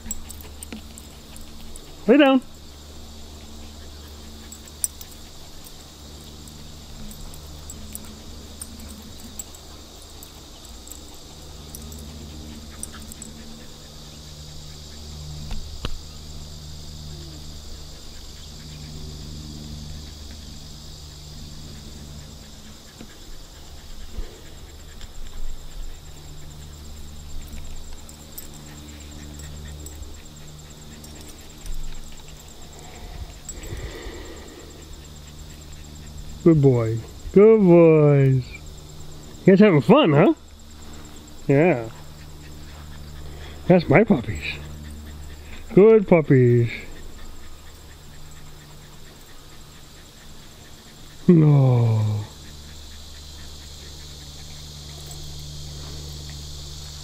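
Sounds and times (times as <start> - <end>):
high insect buzzing: 0.0 - 57.0.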